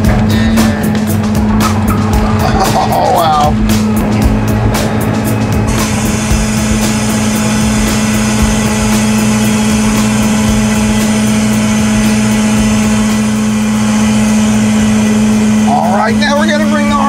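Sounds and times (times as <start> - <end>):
truck engine and hydraulics humming: 0.0 - 17.0.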